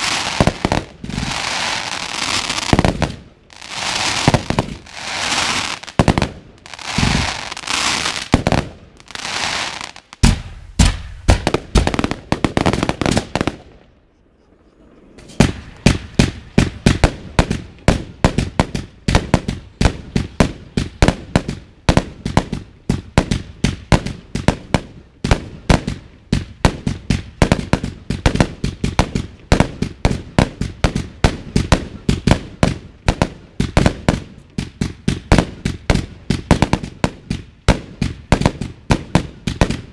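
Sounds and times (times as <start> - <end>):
firework shots and bangs: 0.0 - 13.8, 15.3 - 39.9
crackling firework bursts: 0.0 - 13.9, 14.8 - 39.9.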